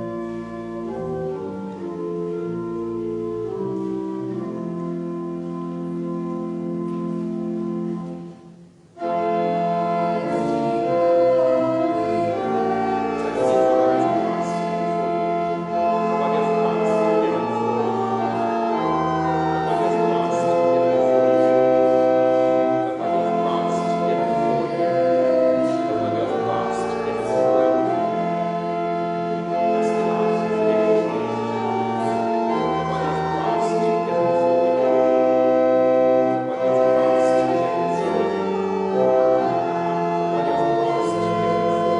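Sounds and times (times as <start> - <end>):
organ playing slow chords: 0.0 - 41.9.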